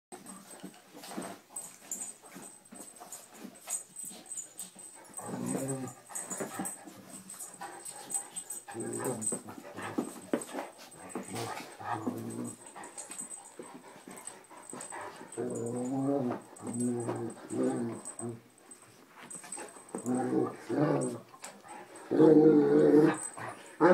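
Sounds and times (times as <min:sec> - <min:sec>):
dogs scuffling: 0:00.2 - 0:23.9
dog play growling: 0:02.8 - 0:23.9.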